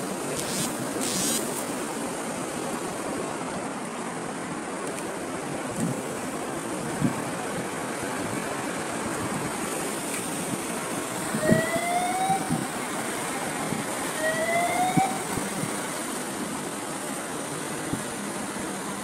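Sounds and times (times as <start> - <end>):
sea surf: 0.0 - 19.0
wind: 0.0 - 19.0.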